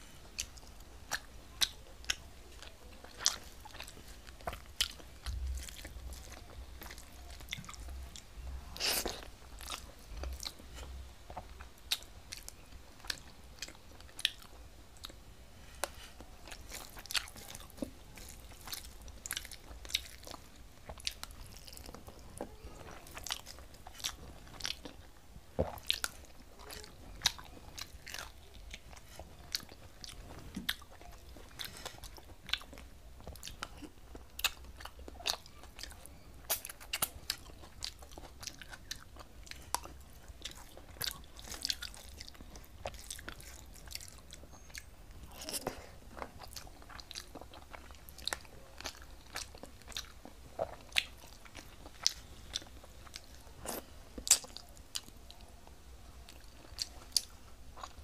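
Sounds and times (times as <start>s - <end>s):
person chewing food: 0.0s - 55.5s, 56.3s - 58.0s.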